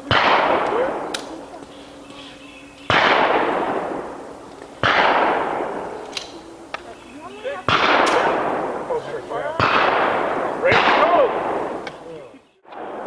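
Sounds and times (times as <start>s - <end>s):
pistol shots with echo: 0.0s - 1.8s, 2.9s - 13.0s.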